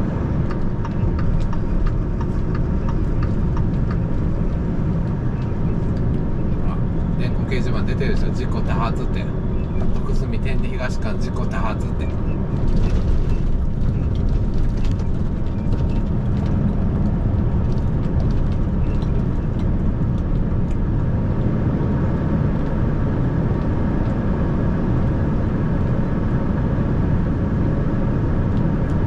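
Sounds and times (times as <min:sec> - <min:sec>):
road noise: 0:00.0 - 0:29.0
truck diesel engine drone: 0:00.0 - 0:29.0.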